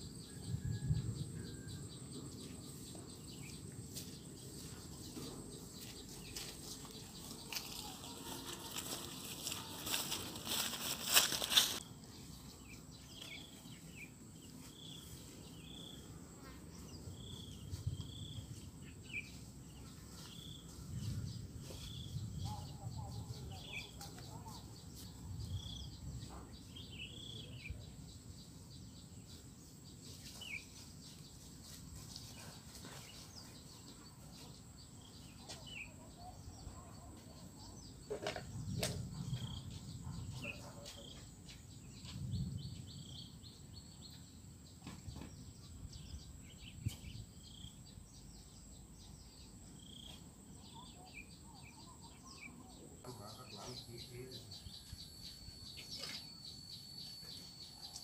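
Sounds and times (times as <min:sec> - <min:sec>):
small birds chirping: 0:01.5 - 0:58.0.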